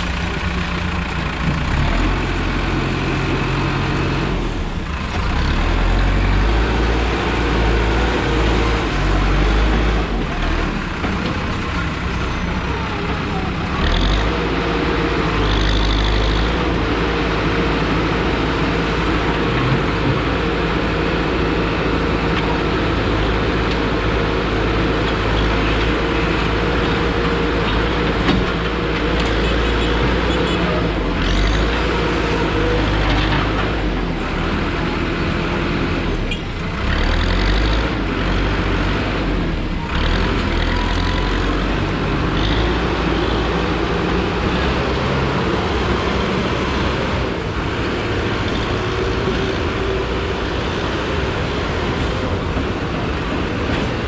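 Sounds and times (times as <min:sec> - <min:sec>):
heavy vehicle engine running: 0:00.0 - 0:54.0
street traffic: 0:00.0 - 0:54.0.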